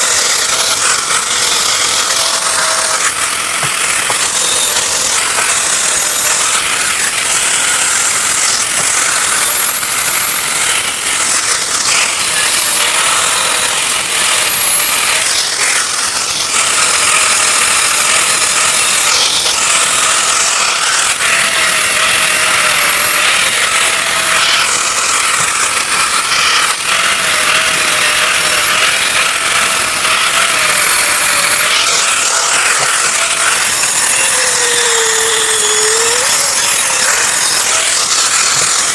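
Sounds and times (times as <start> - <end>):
electric grinder grinding steel: 0.0 - 38.9.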